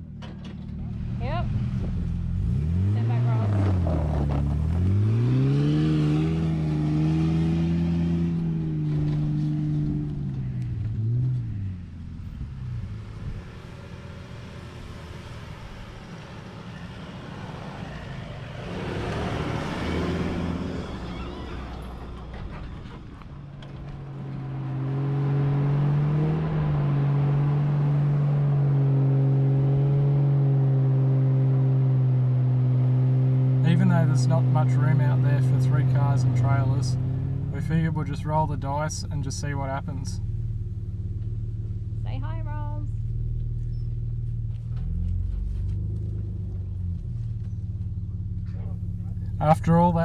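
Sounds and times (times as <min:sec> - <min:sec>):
vehicle engine under load: 0:00.0 - 0:50.0
vehicle driving past: 0:00.8 - 0:42.1.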